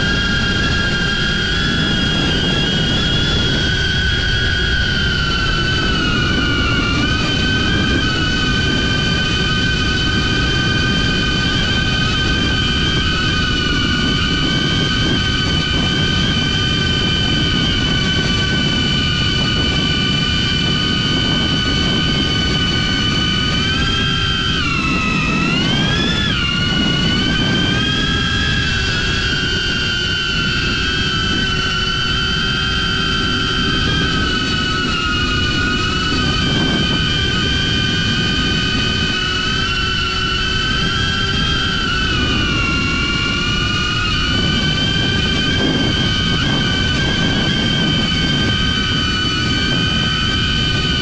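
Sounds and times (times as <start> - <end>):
drone propellers whining: 0.0 - 51.0
low wind rumble: 0.0 - 51.0.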